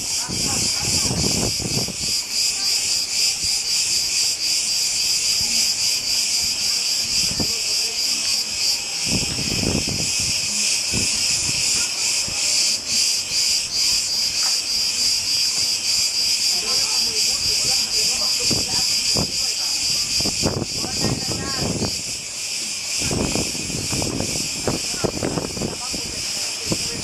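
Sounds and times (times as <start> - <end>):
cicadas buzzing: 0.0 - 27.0.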